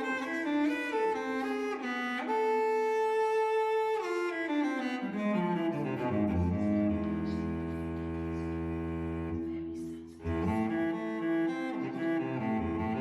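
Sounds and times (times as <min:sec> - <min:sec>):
bowed strings playing slow notes: 0:00.0 - 0:09.6, 0:10.2 - 0:13.0.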